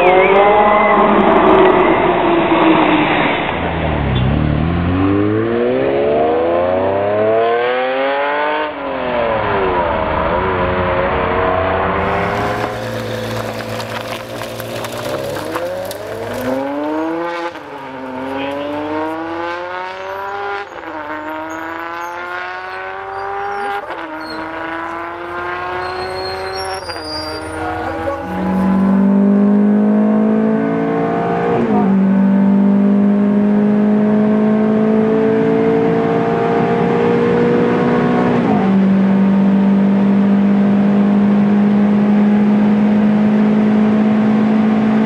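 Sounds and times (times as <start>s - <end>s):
sports car engines accelerating hard: 0.0s - 45.0s.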